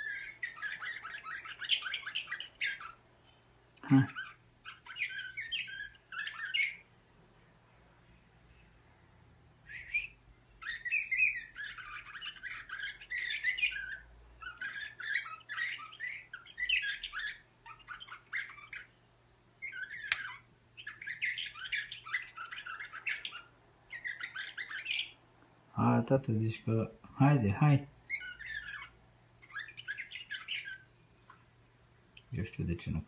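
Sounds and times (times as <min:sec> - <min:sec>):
canary chirping and trilling: 0:00.0 - 0:07.0, 0:07.8 - 0:33.0.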